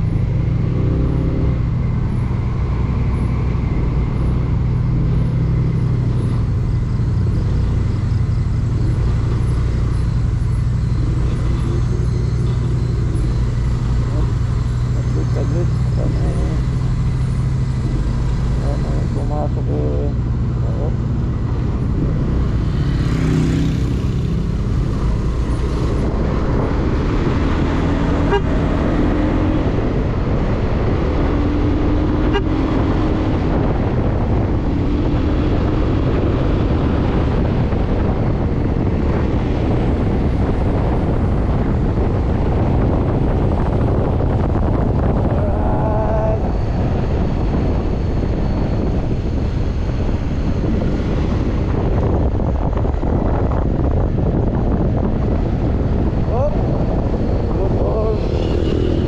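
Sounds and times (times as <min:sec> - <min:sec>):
motorcycle engine: 0:00.0 - 0:59.0
wind and road noise: 0:00.0 - 0:59.0.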